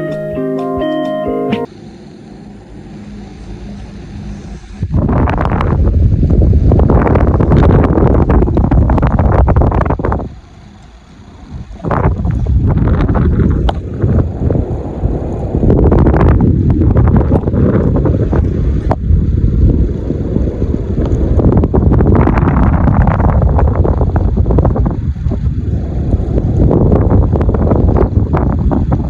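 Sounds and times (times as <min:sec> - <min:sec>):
wind buffeting microphone: 0:04.6 - 0:29.0.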